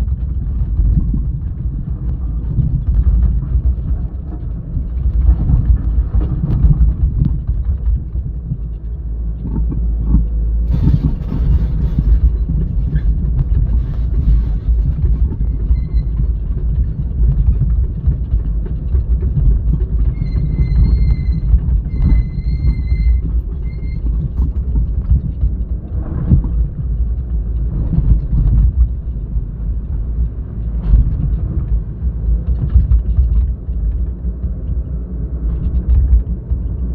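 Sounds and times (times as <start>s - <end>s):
dump truck rumbling: 0.0s - 36.9s
excavator rumbling: 0.0s - 36.9s
knocks and clatter: 0.0s - 36.9s.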